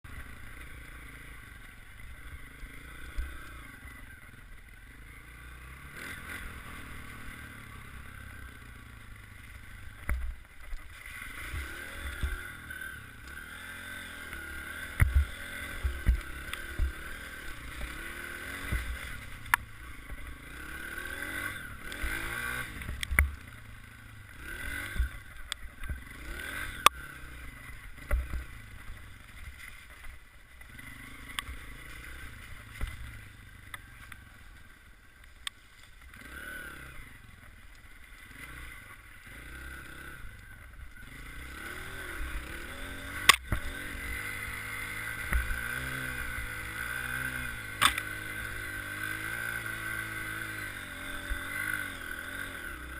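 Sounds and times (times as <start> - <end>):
dirt bike engine revving: 0.1 - 35.2, 36.0 - 52.9.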